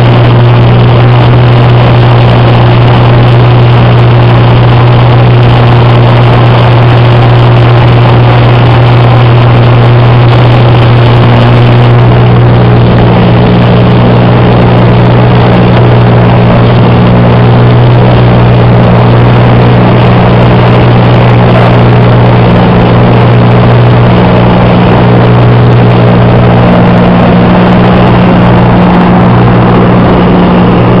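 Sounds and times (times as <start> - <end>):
light aircraft engine droning: 0.0 - 31.0
rushing air noise: 0.0 - 31.0.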